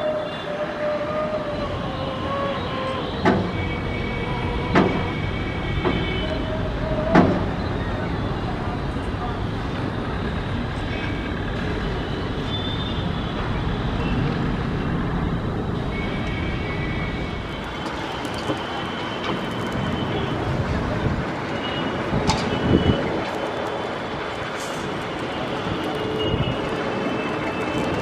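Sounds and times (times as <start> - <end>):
distant engines and traffic roar: 0.0 - 28.0.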